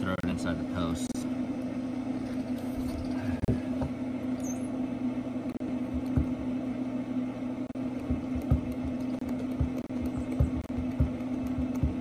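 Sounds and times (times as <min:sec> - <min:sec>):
grill fan humming: 0:00.0 - 0:12.0.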